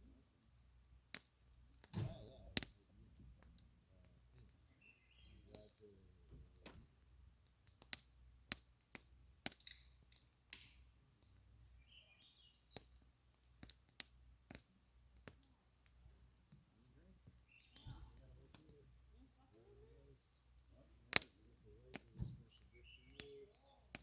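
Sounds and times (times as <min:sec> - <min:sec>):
campfire wood crackling and popping: 0:00.0 - 0:24.0.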